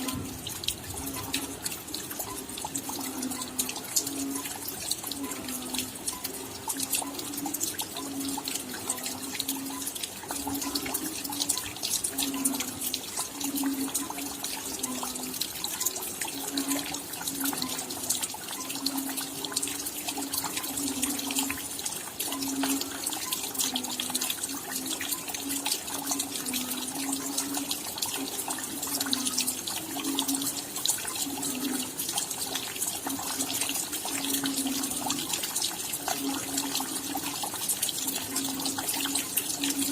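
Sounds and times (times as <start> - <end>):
raindrops pattering: 0.0 - 39.9
running water burbling: 0.0 - 39.9.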